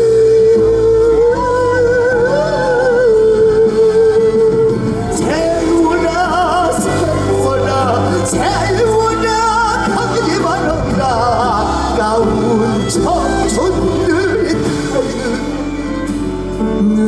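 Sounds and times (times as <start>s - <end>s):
instrumental accompaniment: 0.0s - 17.0s.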